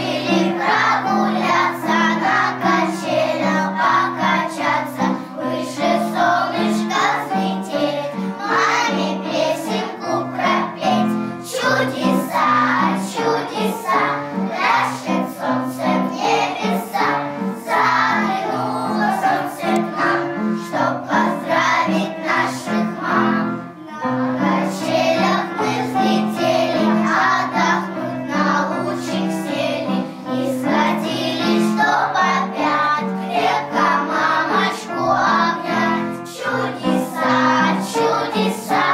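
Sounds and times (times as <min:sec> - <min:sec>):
children singing in unison: 0:00.0 - 0:38.9
instrumental accompaniment: 0:00.0 - 0:38.9.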